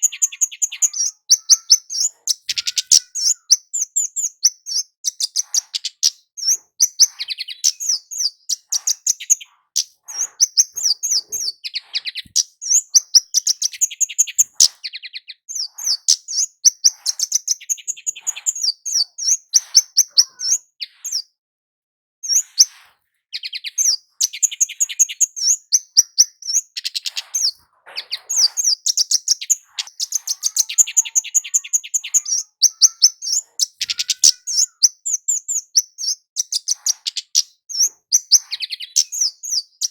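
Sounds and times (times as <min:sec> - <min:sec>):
high thin bird chirps: 0:00.0 - 0:21.4, 0:22.2 - 0:39.9.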